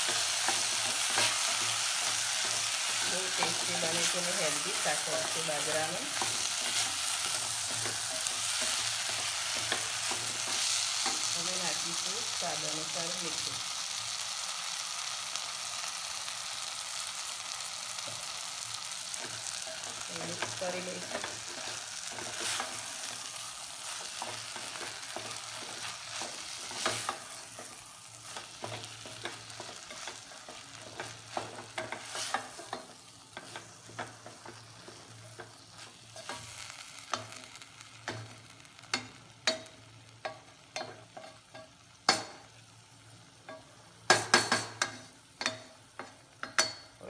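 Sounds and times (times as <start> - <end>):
oil sizzling: 0.0 - 47.0.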